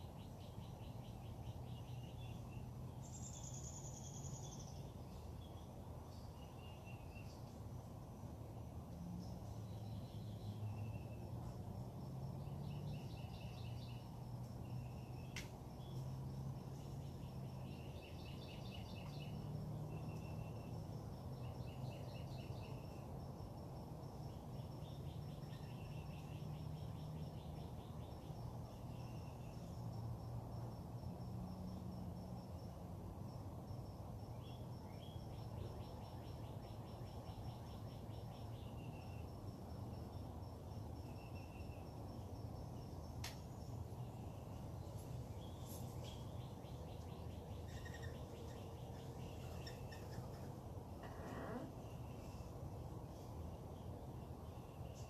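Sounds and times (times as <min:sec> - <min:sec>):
songbirds singing trills: 0:00.0 - 0:30.3, 0:33.4 - 0:55.0
constant low rumble: 0:00.0 - 0:55.0.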